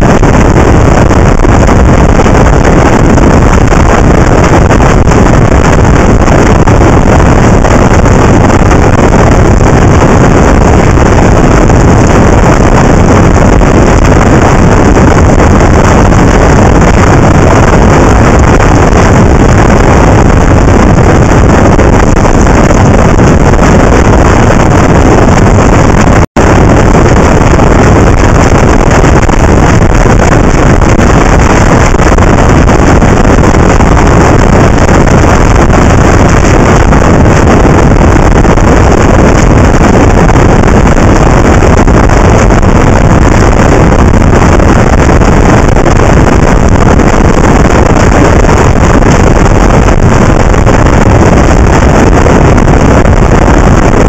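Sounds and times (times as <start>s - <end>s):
wind roaring over microphone: 0.0s - 54.0s.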